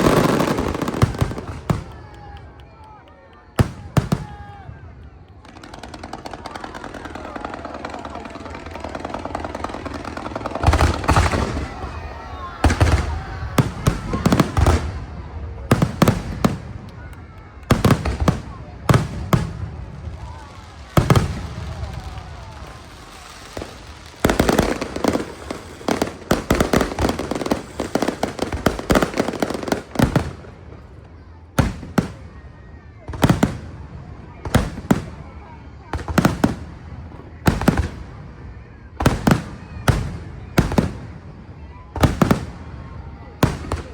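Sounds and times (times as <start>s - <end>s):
fireworks crackling: 0.0s - 43.9s.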